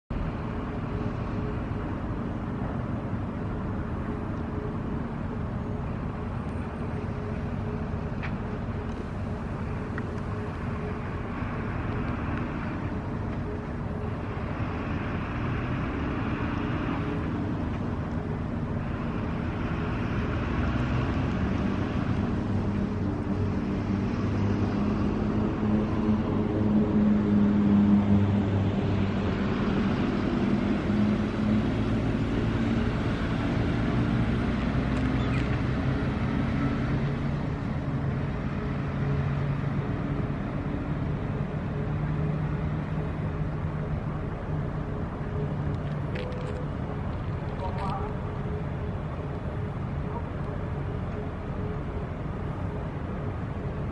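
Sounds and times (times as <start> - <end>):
low engine drone: 0.1 - 53.9.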